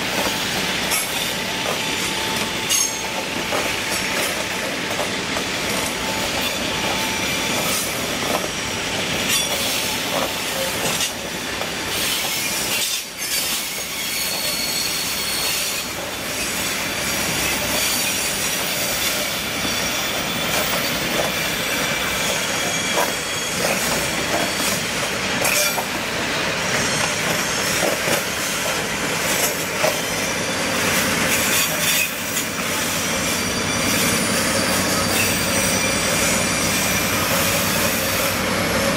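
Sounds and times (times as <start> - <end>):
train wheels squealing on rails: 0.0 - 38.9.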